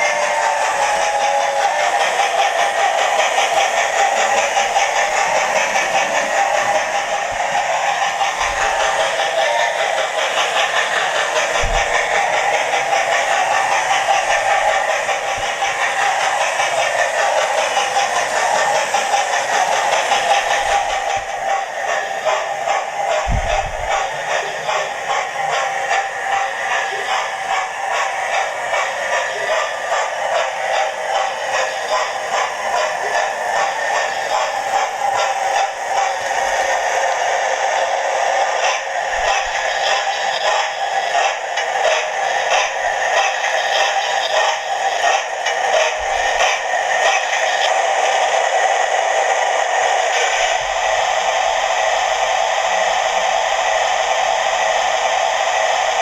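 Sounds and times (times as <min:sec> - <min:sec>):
steam locomotive chuffs from small speaker: 0:00.0 - 0:56.0.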